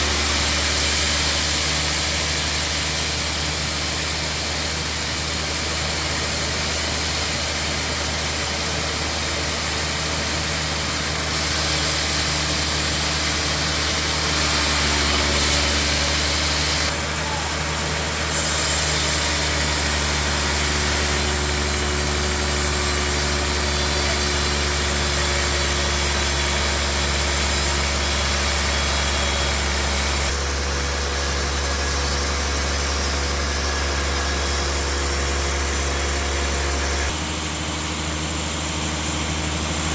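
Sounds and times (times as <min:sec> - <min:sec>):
bandsaw machinery humming: 0:00.0 - 0:39.9.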